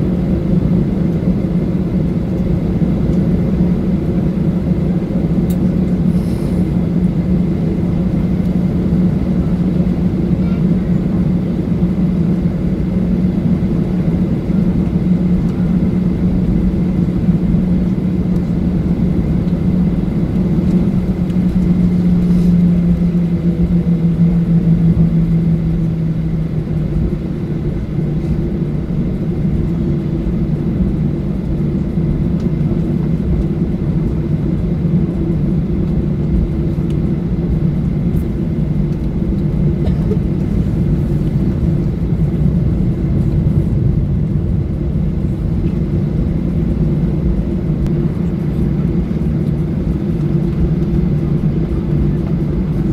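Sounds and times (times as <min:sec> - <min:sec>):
jet engine rumble in cabin: 0:00.0 - 0:52.9.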